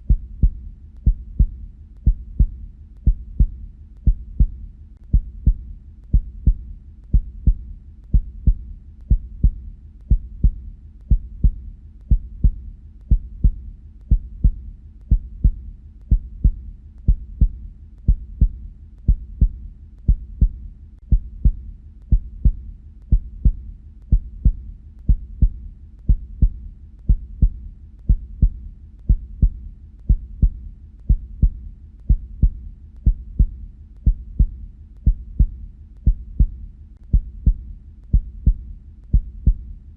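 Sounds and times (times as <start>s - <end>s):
heartbeat lub-dub thuds: 0.0s - 39.9s.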